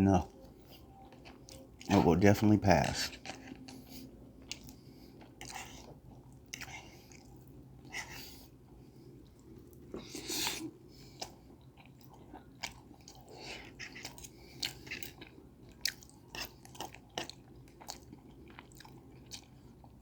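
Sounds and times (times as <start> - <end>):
person chewing food: 0.1 - 20.0.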